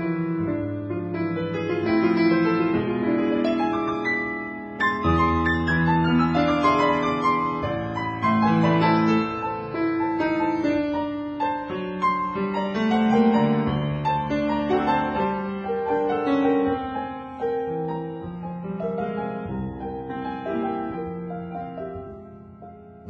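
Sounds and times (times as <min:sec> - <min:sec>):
piano music with held notes: 0:00.0 - 0:23.0.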